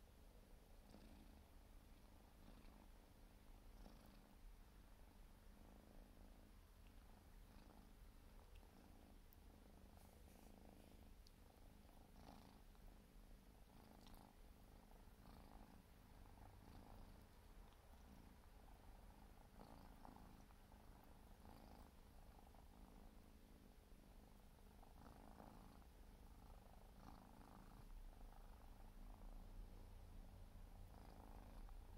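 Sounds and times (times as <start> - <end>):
kitten purring: 0.0 - 31.9.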